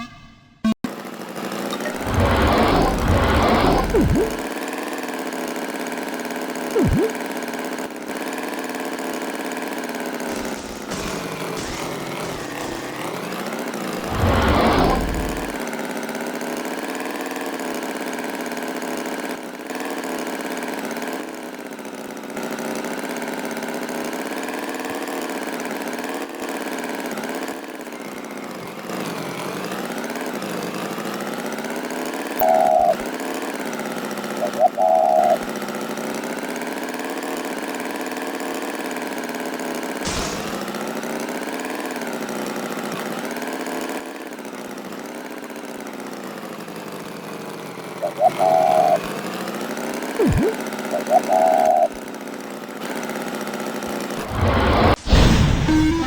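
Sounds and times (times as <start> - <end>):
engine running steadily: 0.9 - 56.0.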